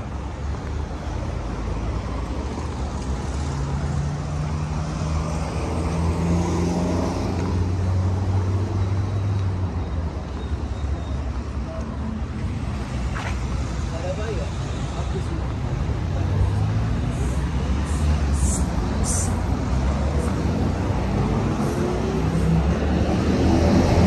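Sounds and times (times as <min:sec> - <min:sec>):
hum of cars passing: 0:00.0 - 0:24.0.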